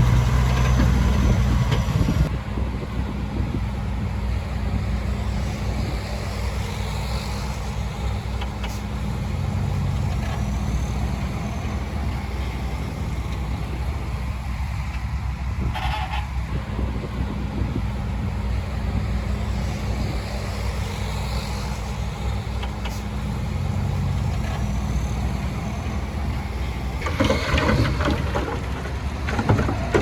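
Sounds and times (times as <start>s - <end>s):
heavy diesel engine rumbling: 0.0s - 30.0s.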